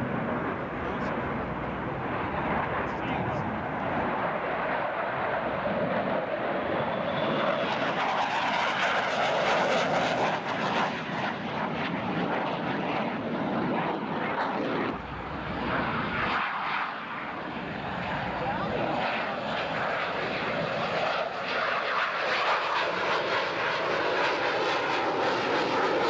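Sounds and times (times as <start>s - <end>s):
airplane flyby: 0.0s - 26.0s.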